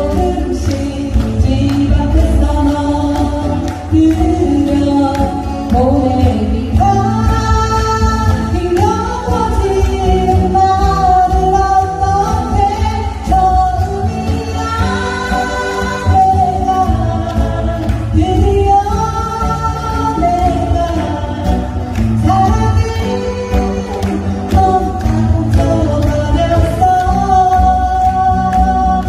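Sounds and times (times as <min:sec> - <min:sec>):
acoustic guitars strummed: 0:00.0 - 0:29.0
woman singing: 0:00.0 - 0:29.0.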